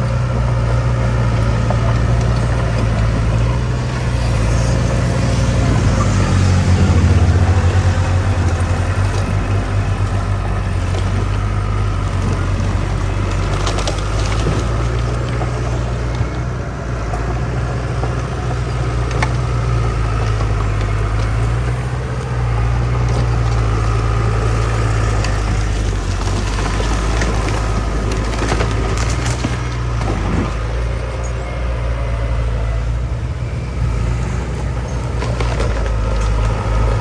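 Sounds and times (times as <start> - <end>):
heavy diesel engine humming: 0.0 - 37.0.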